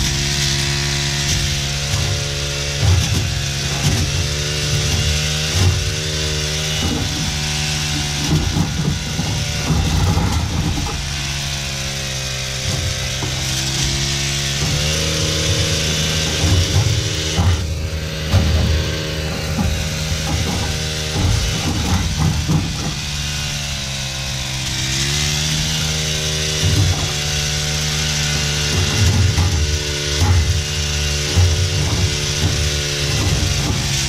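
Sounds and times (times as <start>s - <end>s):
blades cutting branches: 0.0s - 34.0s
hedge trimmer engine running: 0.0s - 34.0s.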